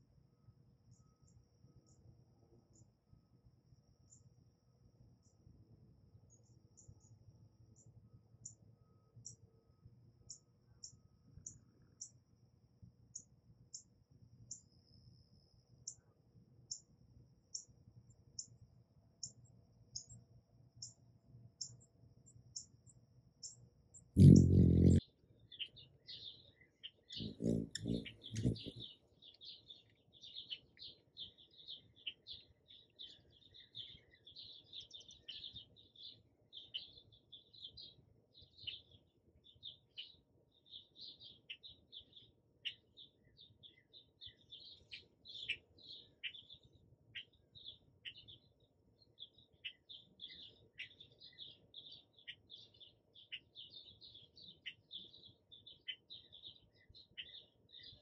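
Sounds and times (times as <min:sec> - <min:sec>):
faint bird chirping: 0:00.0 - 0:58.0.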